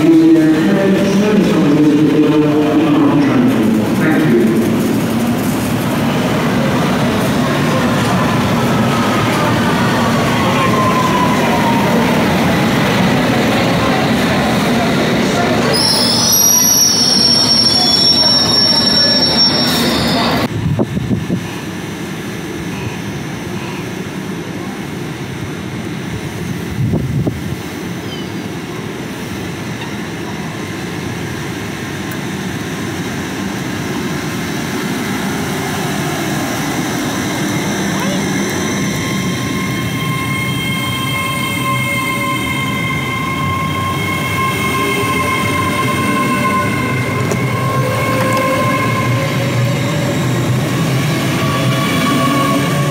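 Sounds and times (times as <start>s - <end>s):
train rumble: 0.0s - 52.9s.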